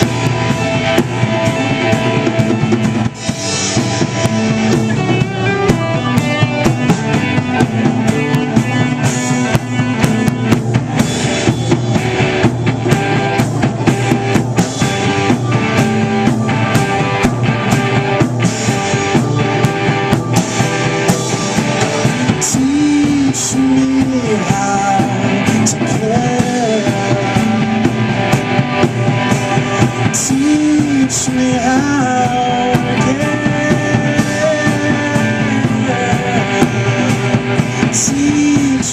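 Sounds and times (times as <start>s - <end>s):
sliding melody line: 0.0s - 37.1s
live rock band playing: 0.0s - 38.9s.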